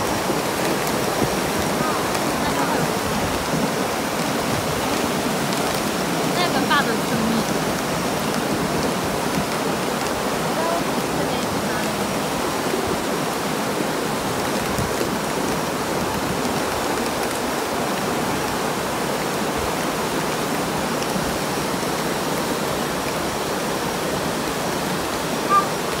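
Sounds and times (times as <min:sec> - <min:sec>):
muddy water rushing: 0:00.0 - 0:26.0.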